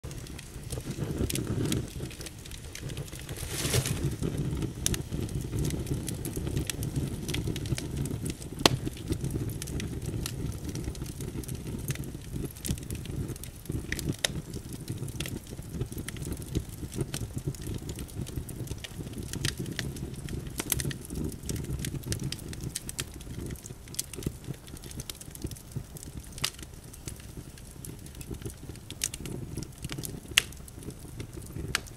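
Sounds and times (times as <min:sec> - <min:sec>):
fire crackling and popping: 0:00.0 - 0:31.9.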